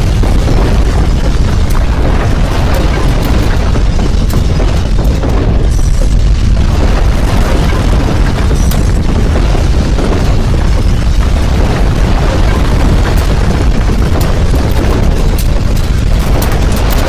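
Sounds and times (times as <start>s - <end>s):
deep earthquake rumble: 0.0s - 17.0s.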